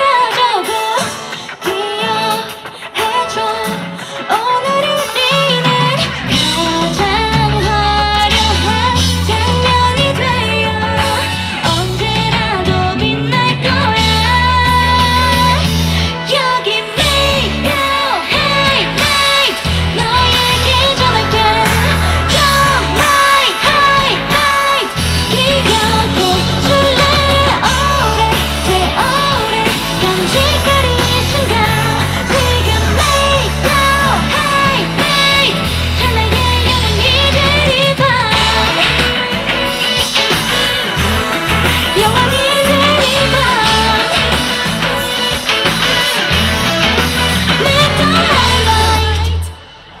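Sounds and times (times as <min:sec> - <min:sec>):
woman singing into a microphone: 0:00.0 - 0:41.0, 0:41.8 - 0:46.3, 0:46.9 - 0:49.8
live pop-rock band: 0:00.0 - 0:50.0
steady bass: 0:05.8 - 0:16.2, 0:17.0 - 0:49.5.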